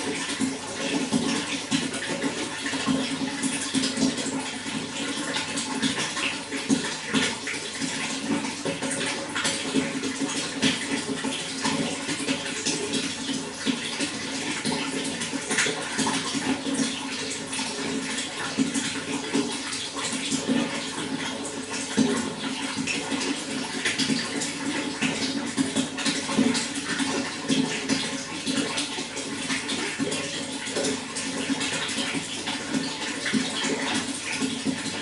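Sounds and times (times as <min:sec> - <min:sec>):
water gurgling and splashing: 0:00.0 - 0:35.0.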